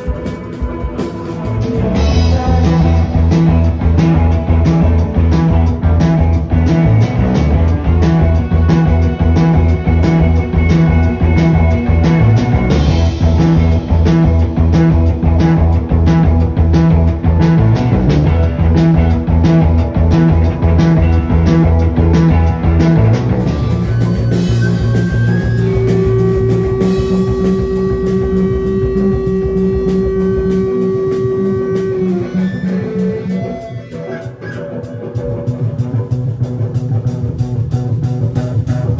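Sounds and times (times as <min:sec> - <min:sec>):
held electric guitar notes: 0:00.0 - 0:38.9
rock band playing loud: 0:00.0 - 0:38.9.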